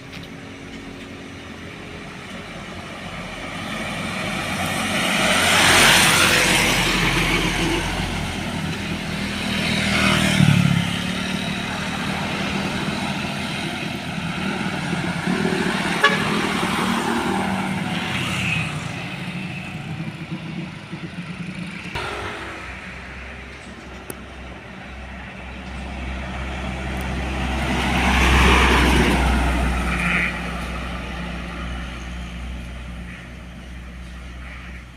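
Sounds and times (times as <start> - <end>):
trucks and vehicles passing: 0.0 - 34.9.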